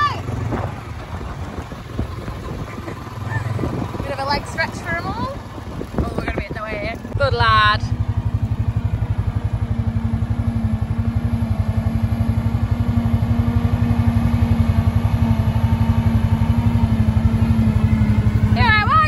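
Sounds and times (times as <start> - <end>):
quad bike engine idling: 0.0 - 19.0.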